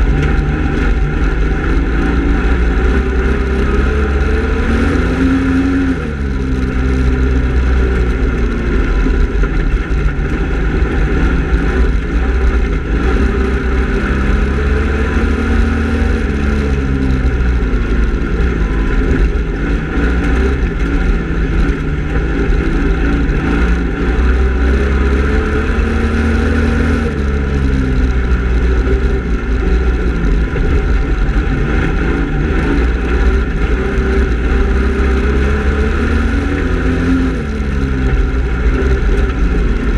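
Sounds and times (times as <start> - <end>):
constant low rumble: 0.0 - 39.9
race car engine running hard: 0.0 - 39.9.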